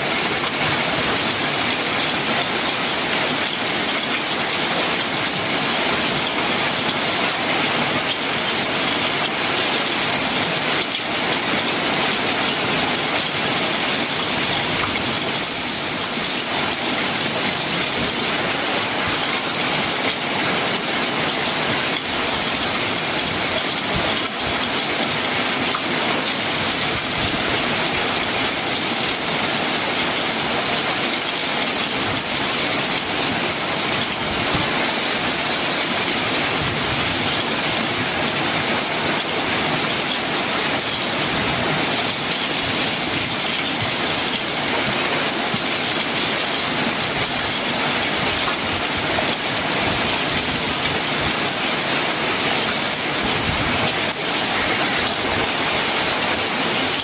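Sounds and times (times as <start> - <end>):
heavy rain on a metal roof: 0.0 - 57.0
water pouring off roof: 0.0 - 57.0.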